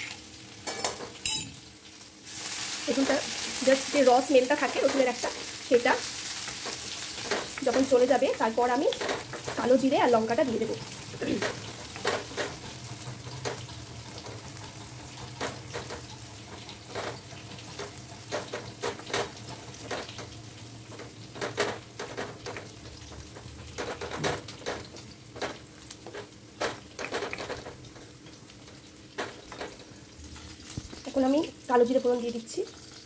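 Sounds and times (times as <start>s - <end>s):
garlic sizzling in oil: 0.0s - 33.0s.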